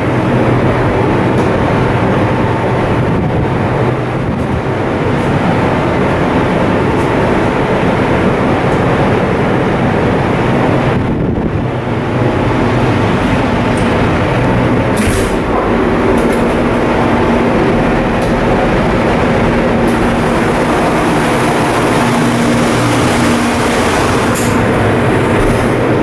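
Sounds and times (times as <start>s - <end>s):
ship diesel machinery droning: 0.0s - 26.0s.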